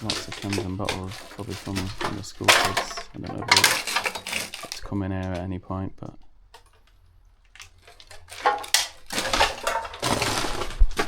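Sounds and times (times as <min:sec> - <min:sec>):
footsteps crunching over rubble: 0:00.0 - 0:11.0.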